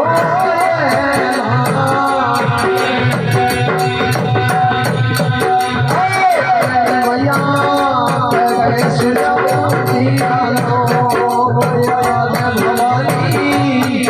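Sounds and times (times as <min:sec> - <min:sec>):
drums: 0:00.0 - 0:14.0
steady rattle beat: 0:00.0 - 0:14.0.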